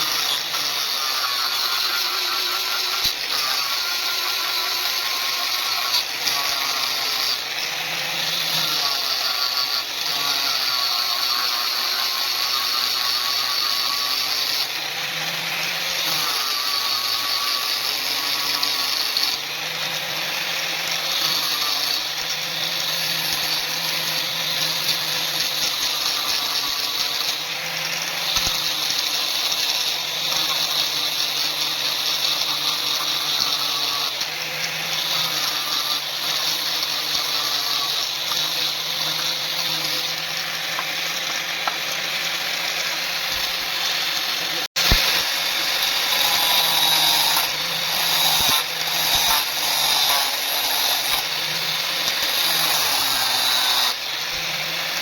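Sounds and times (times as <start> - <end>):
power tool cutting steel: 0.0 - 55.0.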